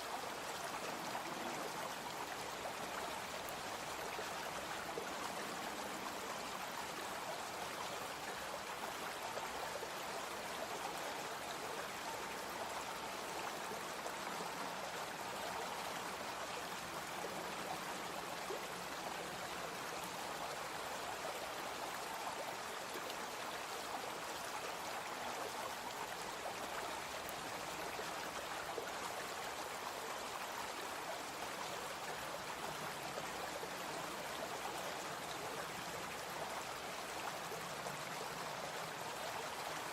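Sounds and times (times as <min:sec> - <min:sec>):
brook water babbling: 0:00.0 - 0:39.9.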